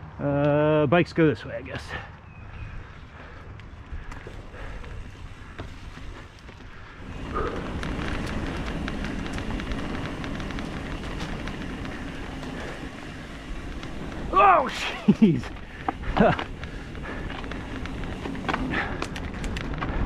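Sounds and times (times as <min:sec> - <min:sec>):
bike tyres rolling over gravel: 0:02.3 - 0:20.0
wind rumble on microphone: 0:02.4 - 0:20.0.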